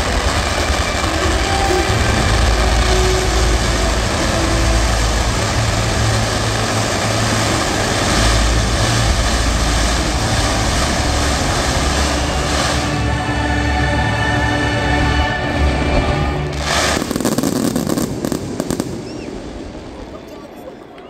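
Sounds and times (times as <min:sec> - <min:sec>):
fireworks rumble and crackle: 0:00.0 - 0:13.6, 0:15.4 - 0:21.0.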